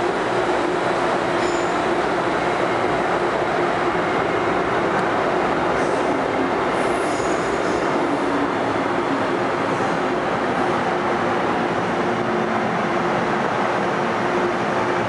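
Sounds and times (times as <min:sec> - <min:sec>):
train hum: 0:00.0 - 0:15.0
train wheels rumbling on rail: 0:00.0 - 0:15.0.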